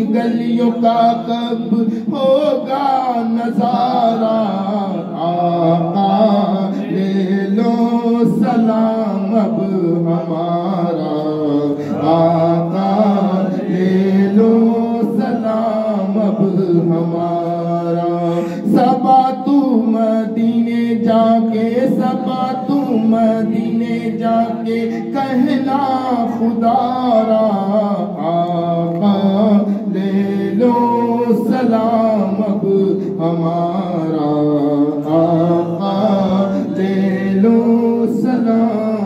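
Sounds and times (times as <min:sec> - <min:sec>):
man chanting into a microphone: 0:00.0 - 0:39.0.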